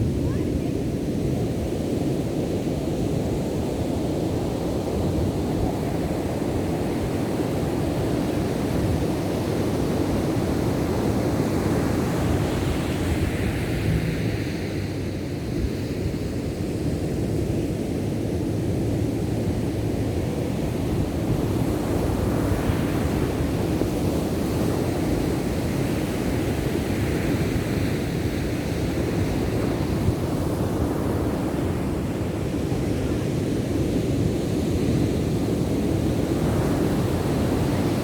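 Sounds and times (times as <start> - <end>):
ocean waves on beach: 0.0 - 38.0.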